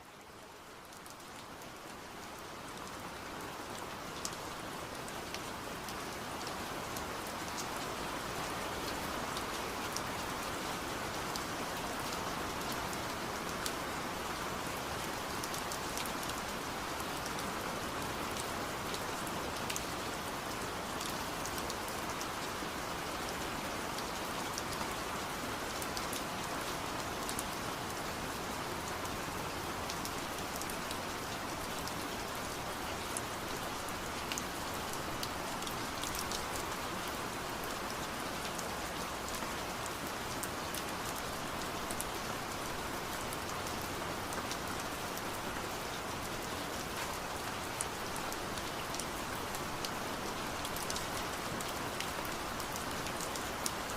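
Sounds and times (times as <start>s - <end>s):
steady rainfall: 0.0s - 53.9s.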